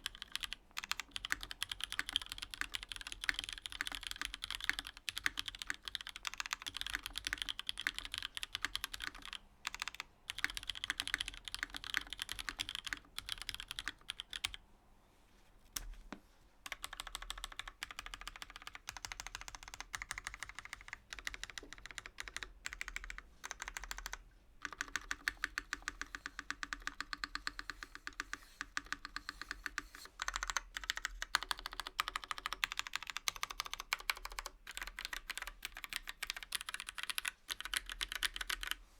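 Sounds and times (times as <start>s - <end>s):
fast typing on keyboard: 0.0s - 14.6s, 16.7s - 38.8s.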